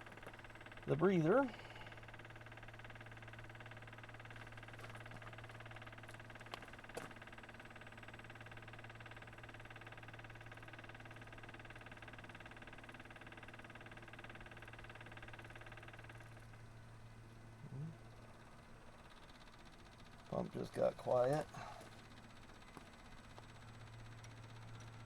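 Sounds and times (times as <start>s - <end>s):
electric fuel pump humming: 0.0s - 25.0s.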